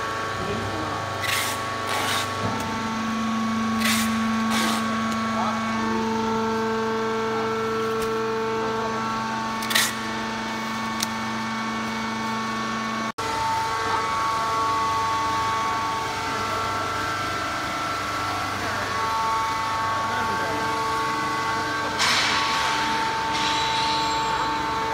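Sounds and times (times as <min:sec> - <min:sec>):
baling press machine hum: 0:00.0 - 0:24.9.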